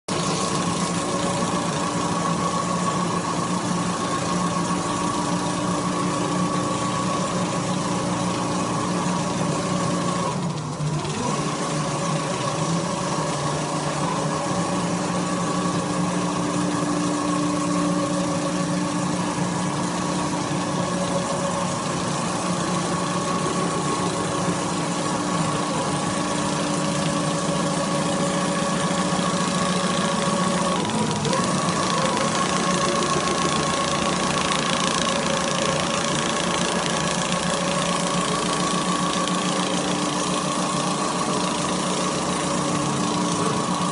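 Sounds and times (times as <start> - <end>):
quilting machine humming: 0.1 - 43.9.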